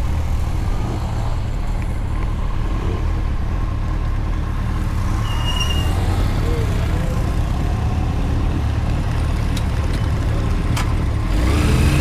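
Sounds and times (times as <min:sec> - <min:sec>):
motorcycle engine and road rumble: 0:00.0 - 0:12.0.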